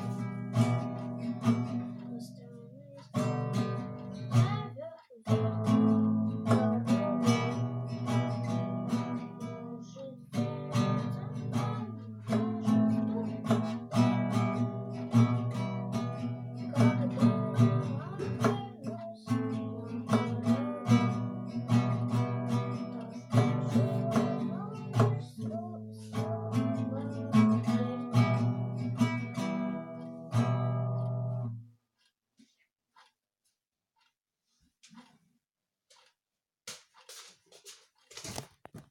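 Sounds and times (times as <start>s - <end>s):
acoustic guitar strumming: 0.0s - 31.7s.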